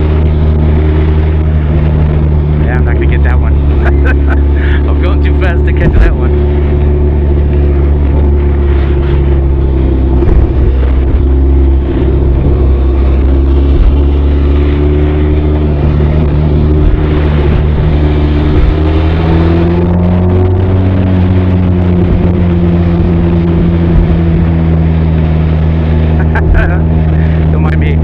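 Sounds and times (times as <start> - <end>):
motorcycle engine exhaust note: 0.0 - 27.6.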